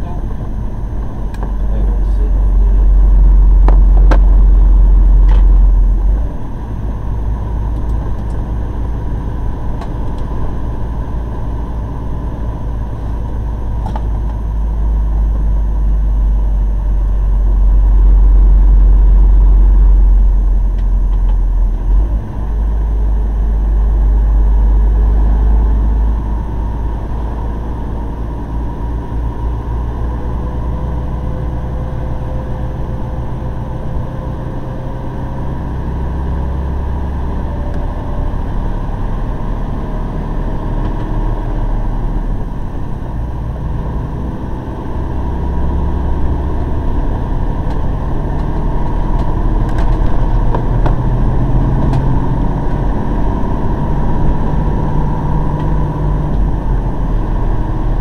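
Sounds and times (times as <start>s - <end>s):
truck diesel engine rumble: 0.0s - 58.0s.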